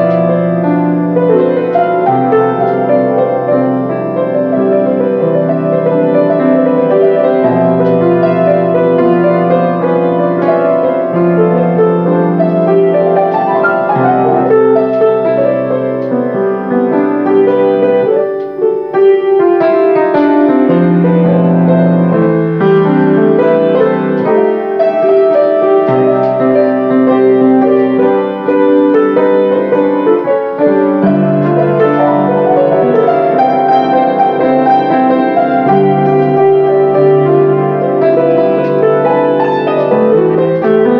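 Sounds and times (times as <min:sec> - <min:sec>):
grand piano playing: 0:00.0 - 0:40.9.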